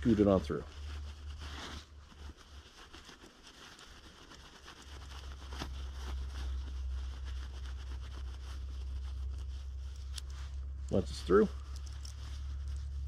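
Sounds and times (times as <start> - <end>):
low steady rumble: 0.0 - 13.0
nylon fabric rustling: 0.0 - 13.0.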